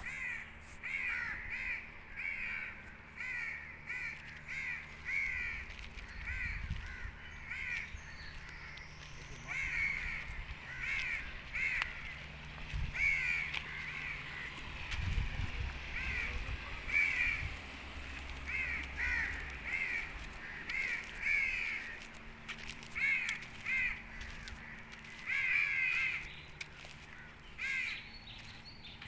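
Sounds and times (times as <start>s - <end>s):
birds calling: 0.0s - 29.0s.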